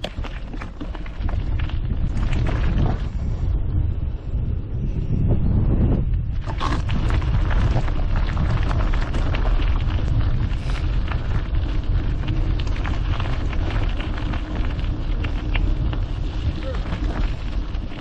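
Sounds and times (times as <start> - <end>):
bike tyres rolling over gravel: 0.0 - 4.6, 6.1 - 18.0
wind buffeting microphone: 0.0 - 18.0.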